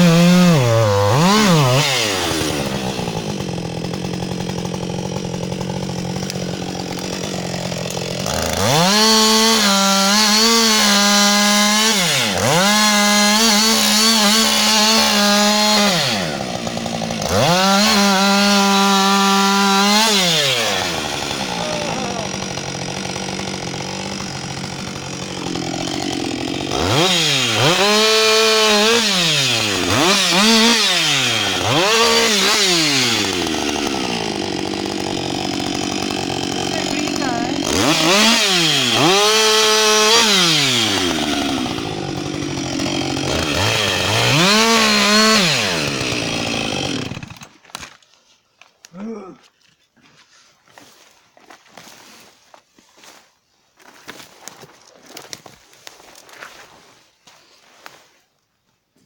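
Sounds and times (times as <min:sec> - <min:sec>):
chainsaw cutting tree trunk: 0:00.0 - 0:48.0.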